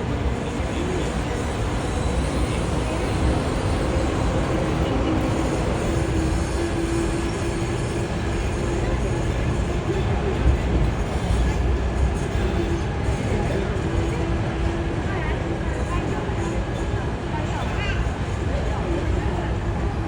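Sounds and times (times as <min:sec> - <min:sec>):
tram rolling rumble: 0:00.0 - 0:20.0.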